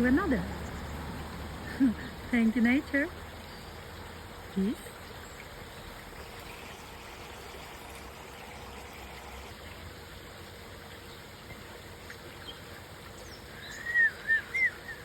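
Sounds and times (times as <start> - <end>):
creek water running: 0.0 - 15.0
faint steady hum: 0.0 - 15.0.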